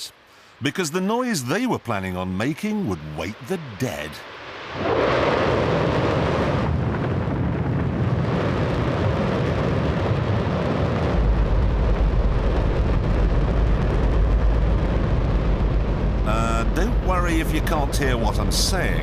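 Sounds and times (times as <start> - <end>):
rocket engine roaring: 1.2 - 19.0.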